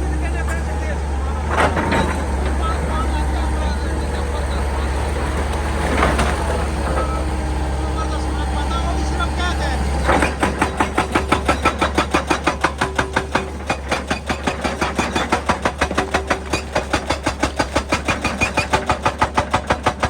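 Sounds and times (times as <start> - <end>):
hydraulic rock breaker hammering: 0.1 - 20.0.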